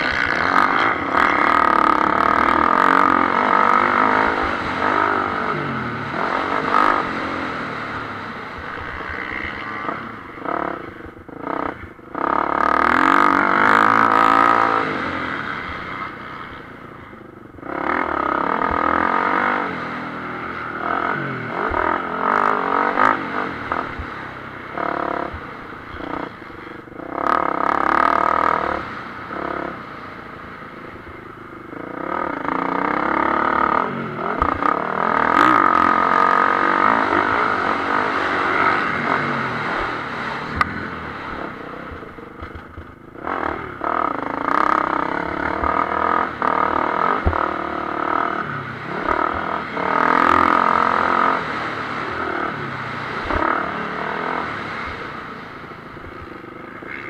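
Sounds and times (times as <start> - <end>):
motocross bike engine revving: 0.0 - 16.7, 17.6 - 30.0, 31.6 - 57.0.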